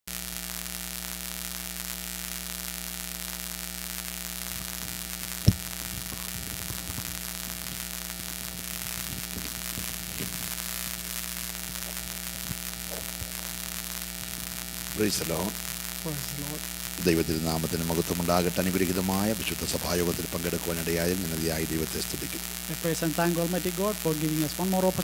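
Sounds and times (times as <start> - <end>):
microphone hiss: 0.1 - 25.0
electrical mains hum: 3.1 - 25.0.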